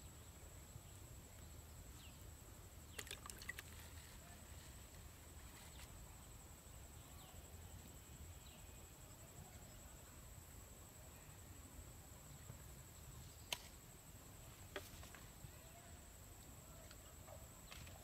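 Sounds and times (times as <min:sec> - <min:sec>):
faint chirps: 0:00.0 - 0:18.0.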